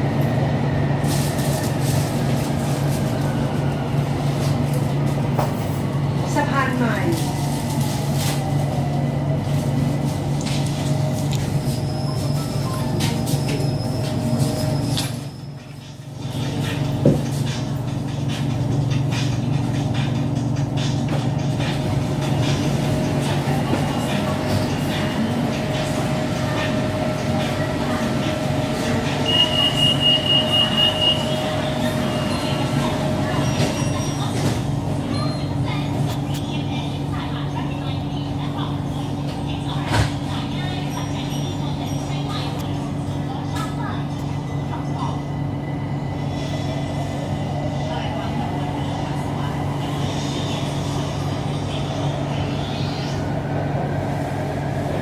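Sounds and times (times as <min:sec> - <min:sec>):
train equipment humming: 0:00.0 - 0:55.0.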